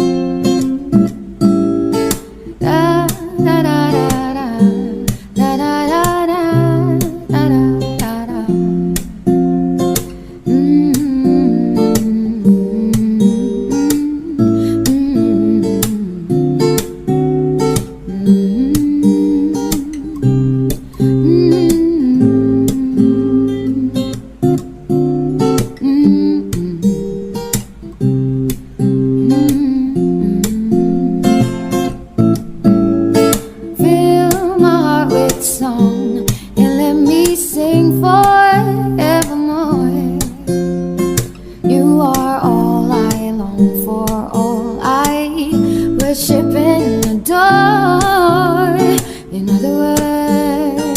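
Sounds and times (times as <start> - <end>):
acoustic guitar music: 0.0 - 50.9.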